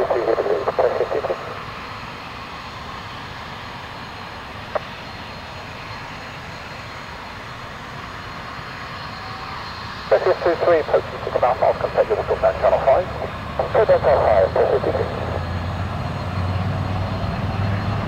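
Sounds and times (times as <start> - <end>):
aircraft engine noise: 0.0 - 18.0.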